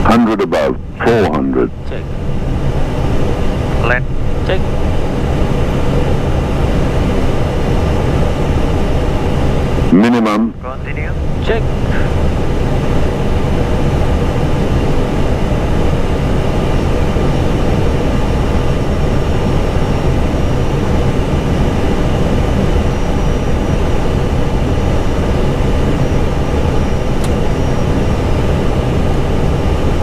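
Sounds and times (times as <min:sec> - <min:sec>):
cockpit airflow and engine noise: 0:00.0 - 0:30.0.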